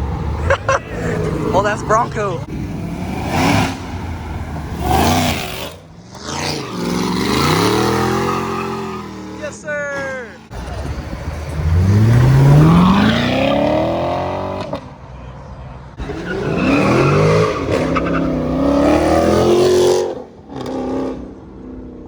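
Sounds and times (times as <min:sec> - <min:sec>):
car engine accelerating hard: 0:00.0 - 0:09.5, 0:10.5 - 0:15.0, 0:15.9 - 0:21.7.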